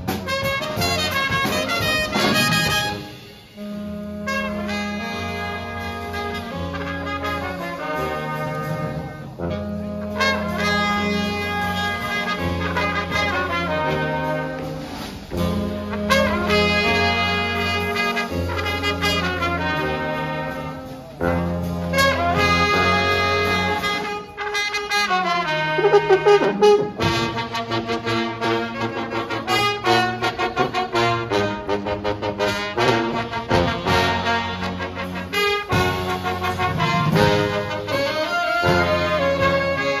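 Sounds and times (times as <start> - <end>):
brass band playing: 0.0 - 40.0.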